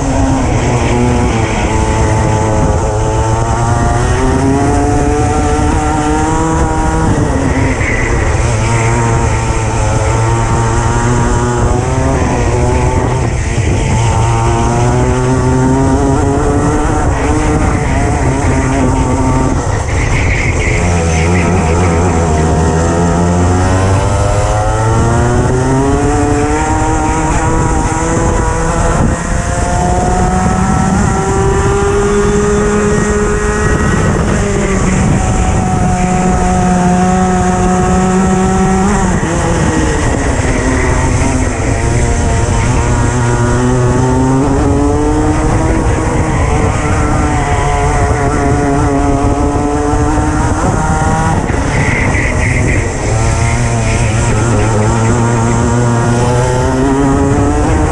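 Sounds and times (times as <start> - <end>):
racing kart engine revving: 0.0 - 57.9.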